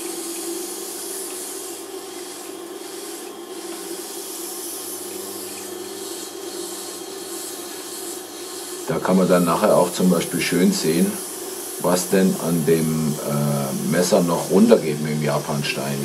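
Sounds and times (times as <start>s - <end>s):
grinding machine motor hum: 0.0s - 16.0s.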